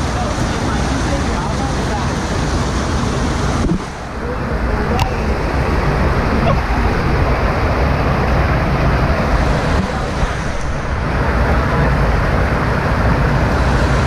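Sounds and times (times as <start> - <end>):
river water rushing: 0.0 - 14.0
wind rumbling on microphone: 0.0 - 14.0.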